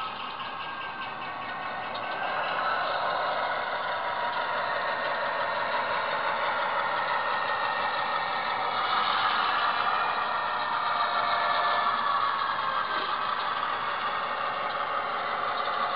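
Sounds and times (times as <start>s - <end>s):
model train running: 0.0s - 15.9s.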